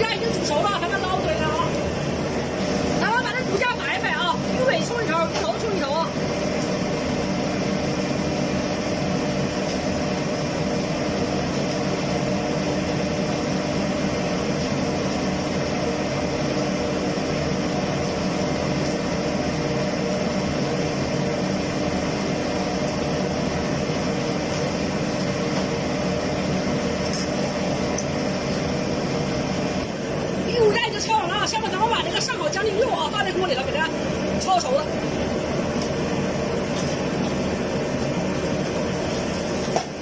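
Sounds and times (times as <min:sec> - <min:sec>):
kitchen exhaust fan droning: 0:00.0 - 0:40.0.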